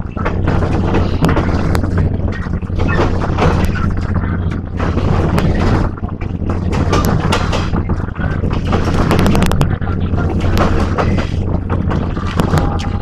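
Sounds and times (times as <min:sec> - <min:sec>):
wheels rumbling on track: 0:00.0 - 0:13.0
wind noise: 0:00.0 - 0:13.0.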